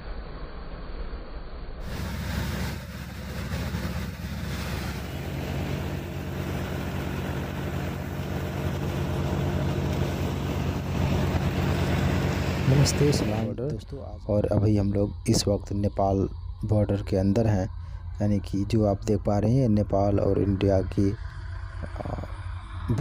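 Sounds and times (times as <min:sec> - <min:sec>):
thresher and tractor engine hum: 0:01.8 - 0:23.0.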